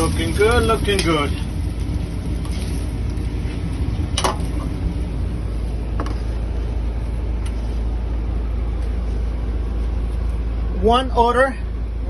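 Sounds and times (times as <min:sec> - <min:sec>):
motor running low rumble: 0:00.0 - 0:12.0.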